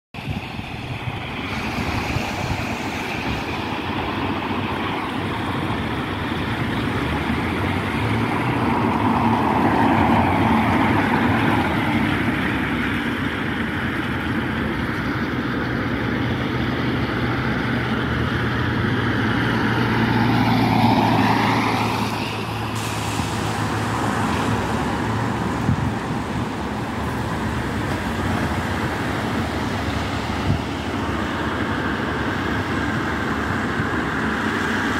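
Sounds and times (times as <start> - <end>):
traffic on a wet road: 0.2 - 34.9.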